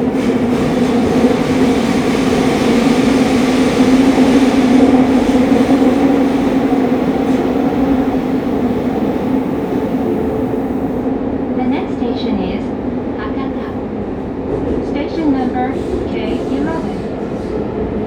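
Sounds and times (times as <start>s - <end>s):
subway car running rumble: 0.0s - 18.0s.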